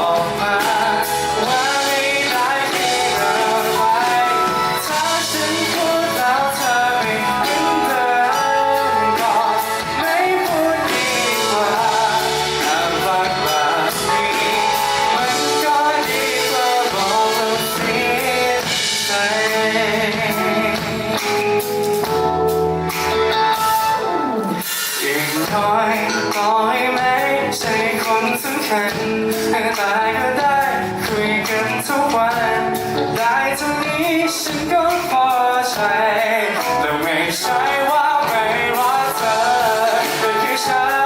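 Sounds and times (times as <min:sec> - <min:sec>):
person singing: 0:00.0 - 0:22.2, 0:23.1 - 0:41.0
live band playing pop song: 0:00.0 - 0:41.0.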